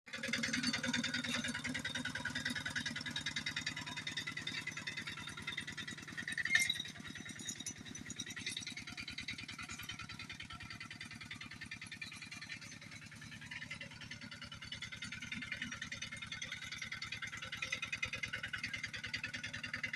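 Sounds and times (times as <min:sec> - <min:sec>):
diesel engine chugging: 0:00.1 - 0:19.9.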